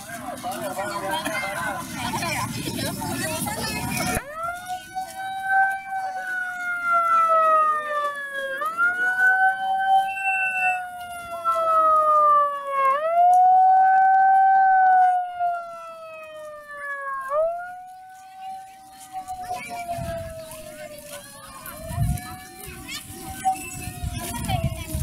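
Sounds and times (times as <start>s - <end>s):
megaphone siren wailing: 3.6s - 25.0s.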